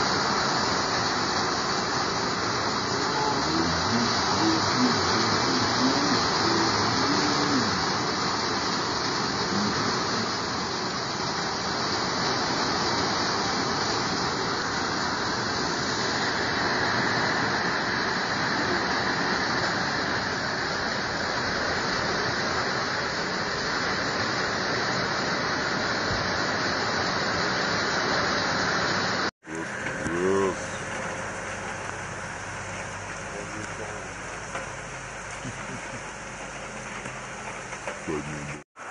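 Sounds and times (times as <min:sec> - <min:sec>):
strong wind: 0:00.0 - 0:38.6
heavy rain pouring: 0:00.0 - 0:38.9.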